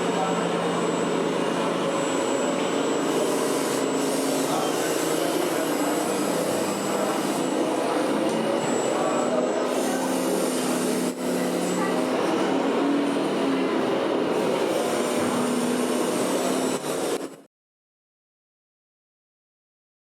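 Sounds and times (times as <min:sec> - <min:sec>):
model trucks humming and whining: 0:00.0 - 0:17.4.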